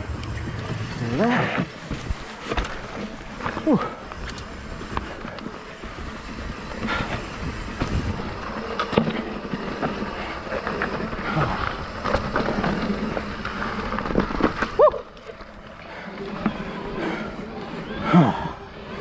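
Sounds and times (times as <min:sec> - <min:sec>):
bike knocking and rattling: 0:00.0 - 0:19.0
bike tyres over dirt and rocks: 0:00.0 - 0:19.0.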